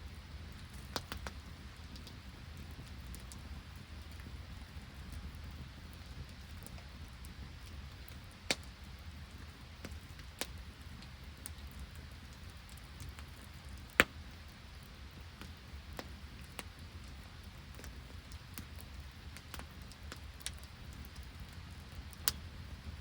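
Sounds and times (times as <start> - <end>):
campfire crackling: 0.0 - 23.0
sleet and rain: 0.0 - 23.0
burning wood popping: 0.1 - 23.0.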